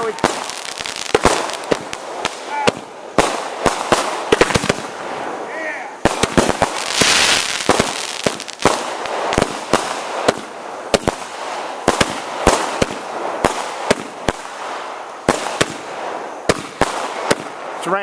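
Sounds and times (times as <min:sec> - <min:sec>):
fireworks bangs: 0:00.0 - 0:18.0
hissing crackle of fireworks: 0:00.0 - 0:18.0.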